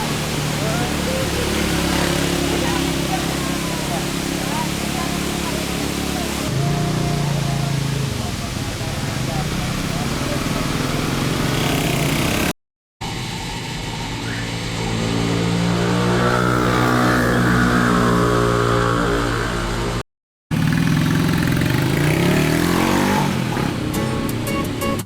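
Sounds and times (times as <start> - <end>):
motor engine running: 0.0 - 25.0.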